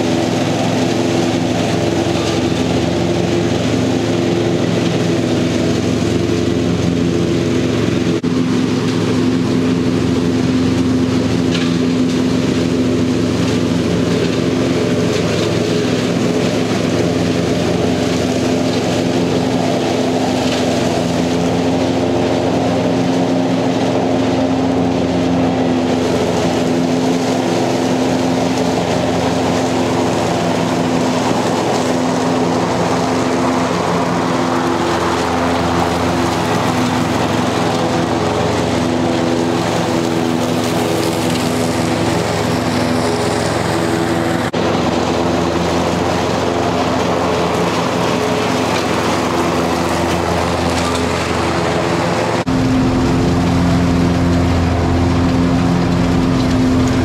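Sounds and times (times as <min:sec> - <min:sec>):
lawn mower engine hum: 0:00.0 - 0:57.0.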